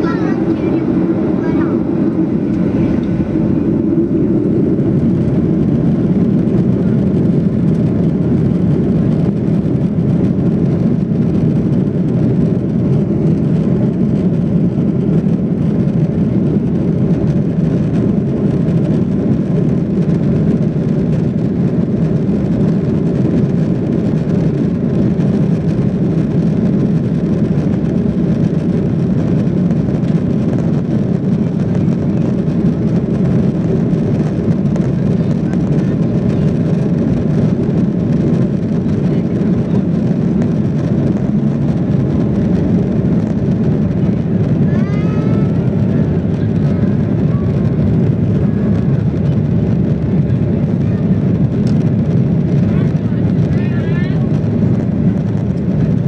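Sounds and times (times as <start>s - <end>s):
airplane cabin engine drone: 0.0s - 56.0s.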